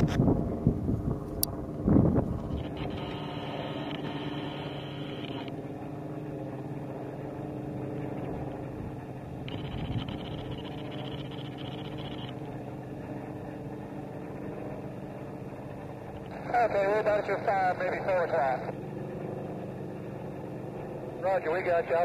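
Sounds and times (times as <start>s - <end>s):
piston engine drone: 0.0s - 22.0s.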